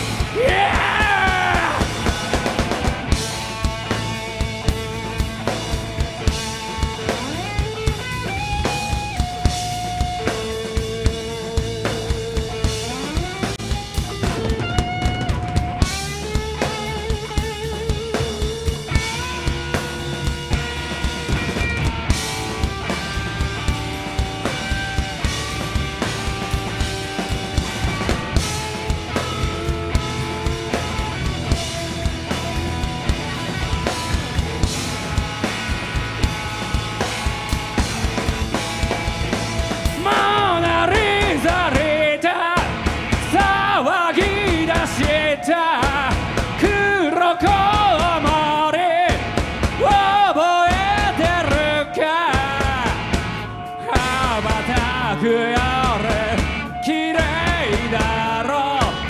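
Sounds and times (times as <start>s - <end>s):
live rock band playing: 0.0s - 59.0s
wavering lead guitar line: 0.0s - 59.0s.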